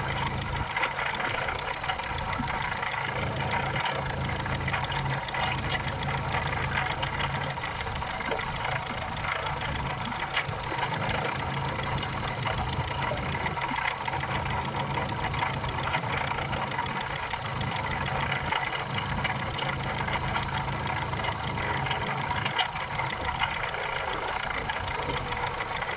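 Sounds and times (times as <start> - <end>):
car engine idling: 0.0 - 25.9
rapid ticking in engine: 0.0 - 25.9.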